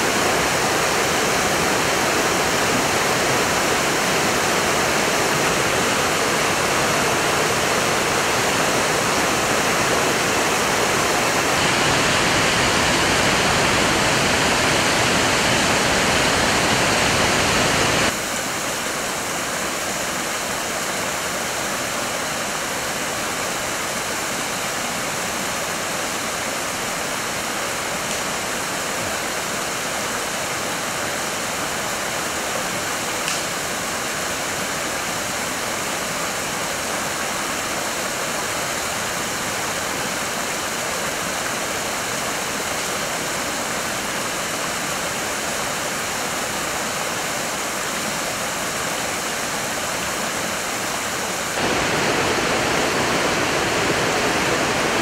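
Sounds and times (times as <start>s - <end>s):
water gushing over rocks: 0.0s - 55.0s.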